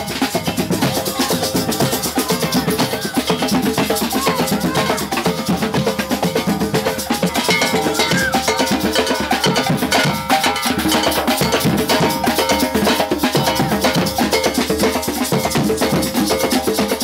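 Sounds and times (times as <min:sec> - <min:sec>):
music with fast percussion: 0:00.0 - 0:17.0.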